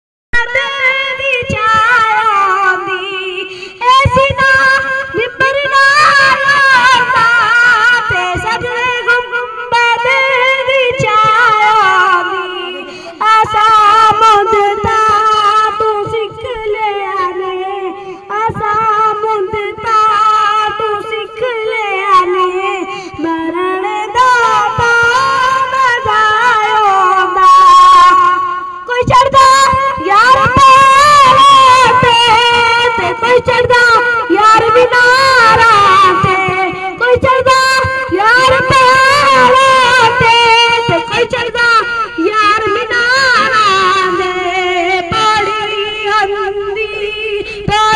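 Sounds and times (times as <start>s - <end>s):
boy singing into a microphone: 0.4s - 47.9s.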